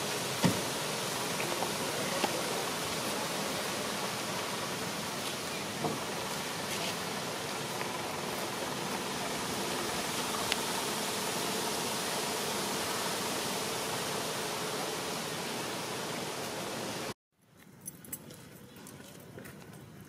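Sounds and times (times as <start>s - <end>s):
outdoor background hiss: 0.0s - 18.8s.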